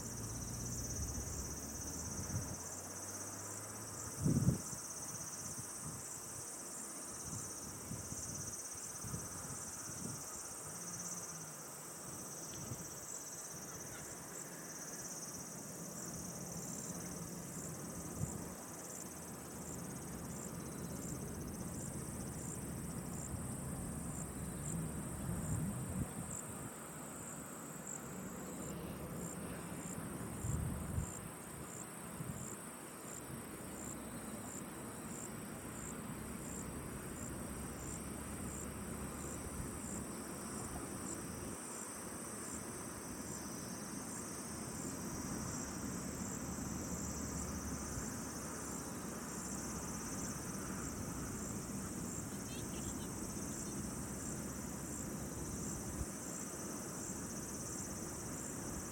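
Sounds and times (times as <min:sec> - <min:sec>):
crickets trilling: 0:00.0 - 0:58.9
insect chirps: 0:00.0 - 0:58.9.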